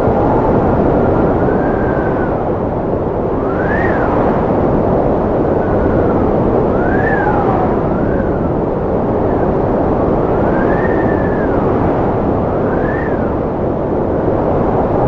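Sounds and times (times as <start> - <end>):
strong wind howling: 0.0 - 15.0.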